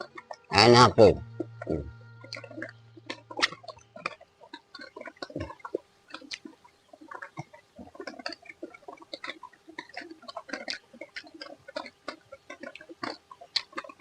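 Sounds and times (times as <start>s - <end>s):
mouth chewing and crunching food: 0.0s - 14.0s.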